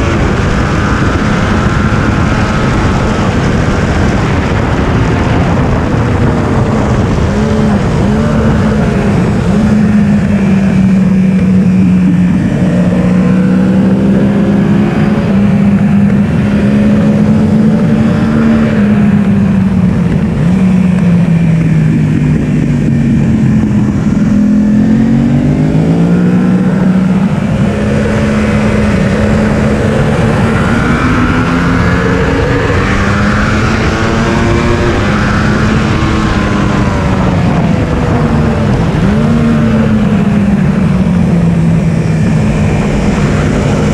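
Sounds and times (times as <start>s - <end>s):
motorcycle engine revving high: 0.0s - 43.9s.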